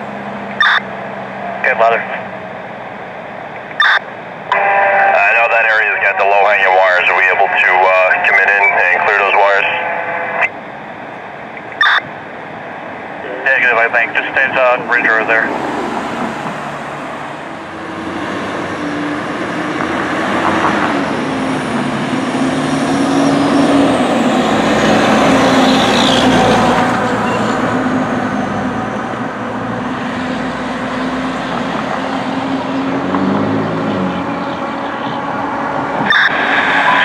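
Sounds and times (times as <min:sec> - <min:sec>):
fire truck engine driving past: 0:00.0 - 0:37.0
street traffic noise: 0:00.0 - 0:37.0.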